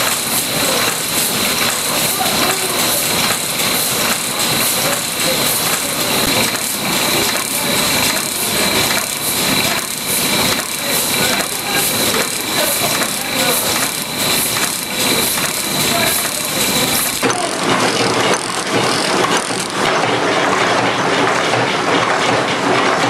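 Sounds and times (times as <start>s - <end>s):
high-pitched machine whine: 0.0s - 20.2s.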